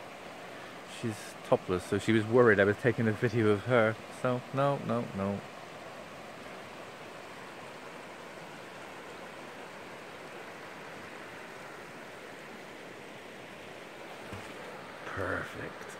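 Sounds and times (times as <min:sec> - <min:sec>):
river rushing over rapids: 0:00.0 - 0:15.9.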